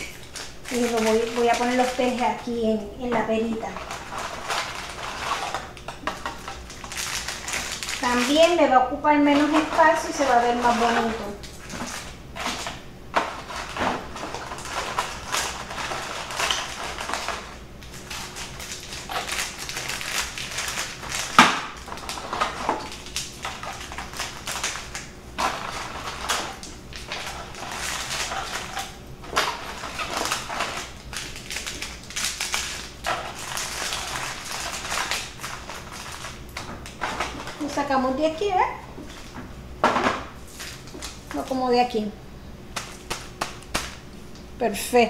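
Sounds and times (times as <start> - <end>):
paper packets rustling and crinkling: 0.0 - 41.8.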